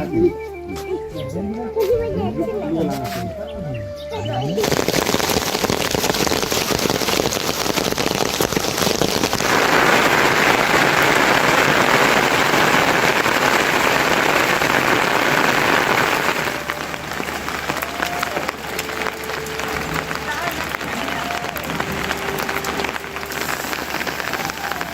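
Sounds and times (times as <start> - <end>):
heavy rain falling: 4.6 - 24.9.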